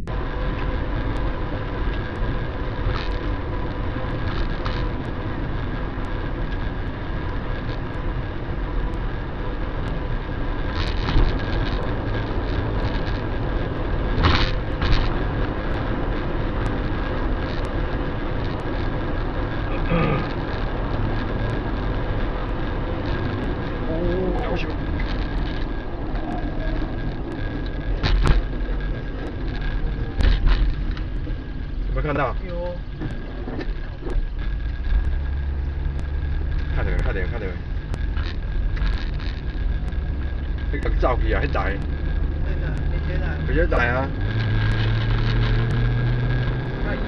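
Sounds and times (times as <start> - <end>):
car road noise: 0.0 - 47.0.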